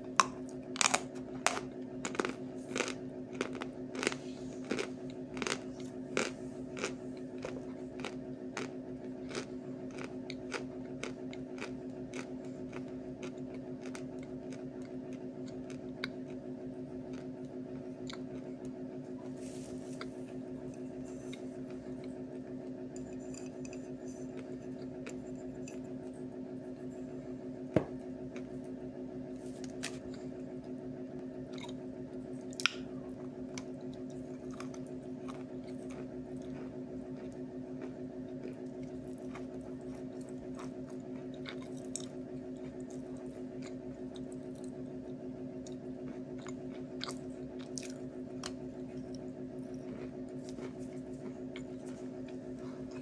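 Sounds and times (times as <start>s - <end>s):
steady low hum: 0.0s - 53.0s
wet chewing and crunching: 0.0s - 53.0s.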